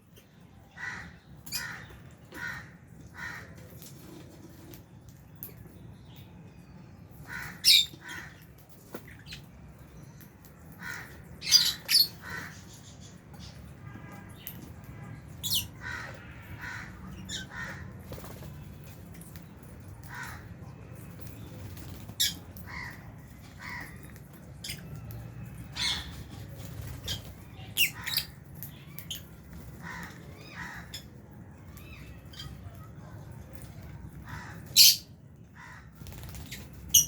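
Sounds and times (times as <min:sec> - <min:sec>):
lovebirds chirping and squawking: 0:00.1 - 0:04.8, 0:05.4 - 0:37.0.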